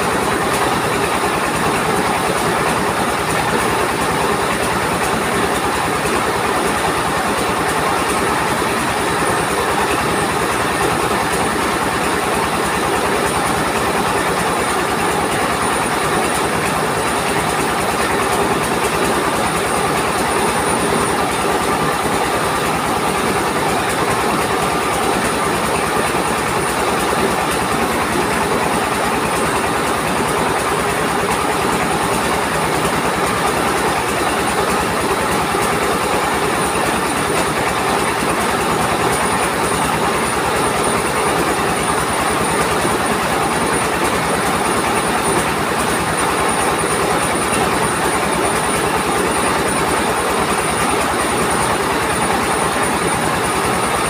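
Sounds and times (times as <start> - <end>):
rice mill mechanical clatter: 0.0 - 54.0.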